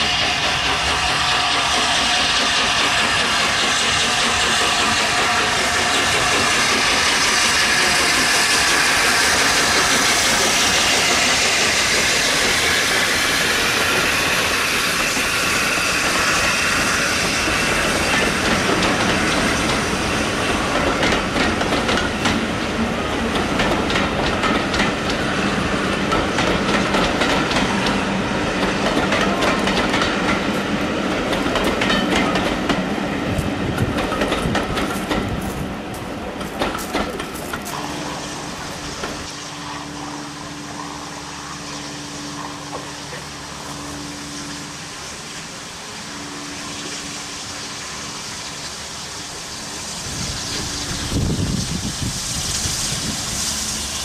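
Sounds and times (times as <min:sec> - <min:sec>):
train wheels clicking over rail joints: 0:00.0 - 0:45.7
steam locomotive passing: 0:00.0 - 0:54.0.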